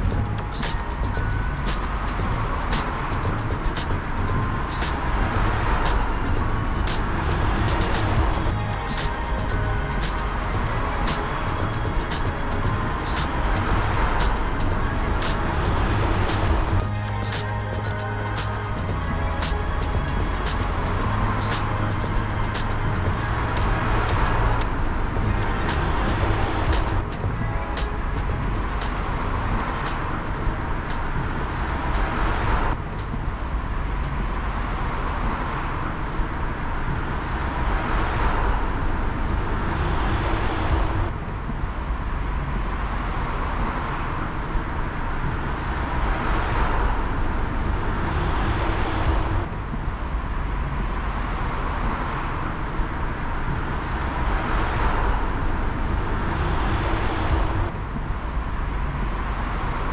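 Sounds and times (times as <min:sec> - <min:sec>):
steady low traffic rumble: 0:00.0 - 0:59.9
vehicles passing: 0:00.0 - 0:59.9.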